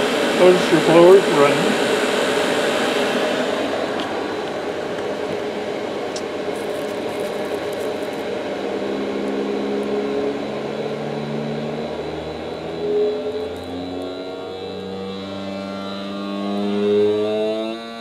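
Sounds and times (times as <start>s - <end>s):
blower fan air rushing: 0.0s - 18.0s.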